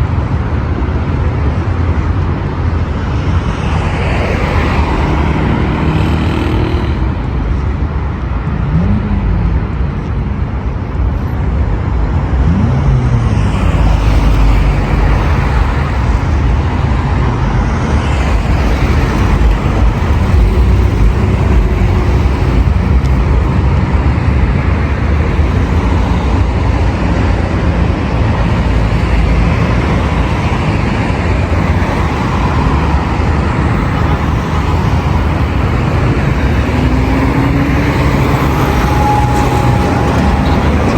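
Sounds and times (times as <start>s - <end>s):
heavy road traffic rumble: 0.0s - 40.9s.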